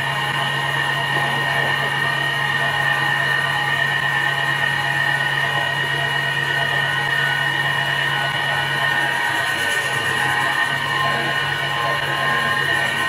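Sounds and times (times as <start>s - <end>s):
wood lathe machine whine: 0.0s - 13.0s.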